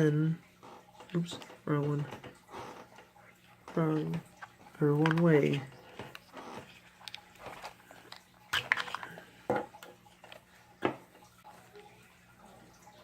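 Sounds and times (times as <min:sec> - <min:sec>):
plastic clicks and rustles: 0:00.6 - 0:11.4.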